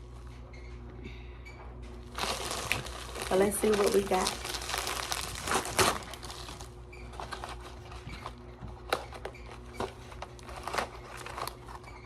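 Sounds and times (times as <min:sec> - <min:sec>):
faint steady hum: 0:00.0 - 0:12.0
package being handled and opened: 0:02.0 - 0:12.0.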